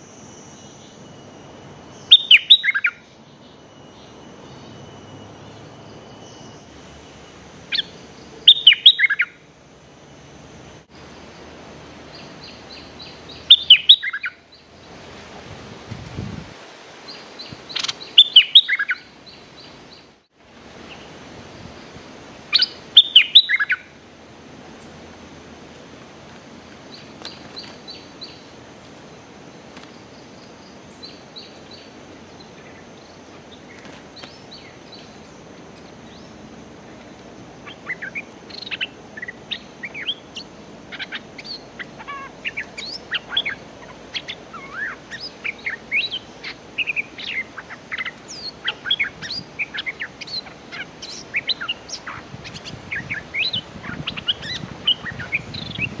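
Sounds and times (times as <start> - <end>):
birds chattering calls: 0.0 - 15.2, 17.0 - 56.0.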